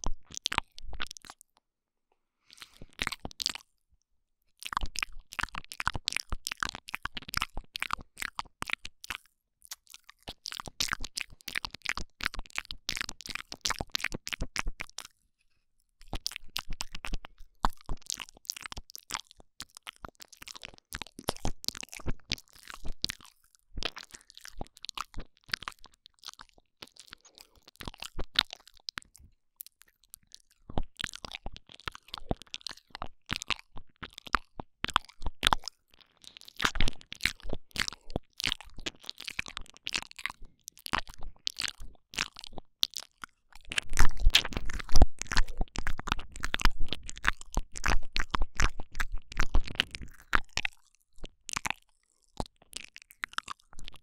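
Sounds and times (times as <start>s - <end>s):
wet mouth sounds: 0.0s - 1.6s, 2.4s - 3.8s, 4.5s - 15.2s, 16.0s - 54.0s.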